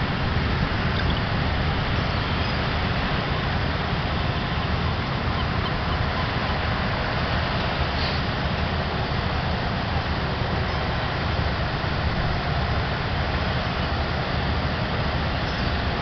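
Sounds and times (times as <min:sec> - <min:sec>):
ship engines rumbling: 0:00.0 - 0:16.0.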